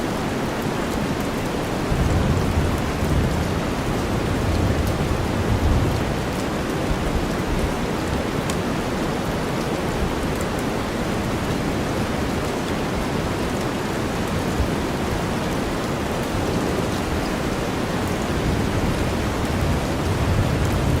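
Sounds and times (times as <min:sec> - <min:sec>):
rain: 0:00.0 - 0:21.0.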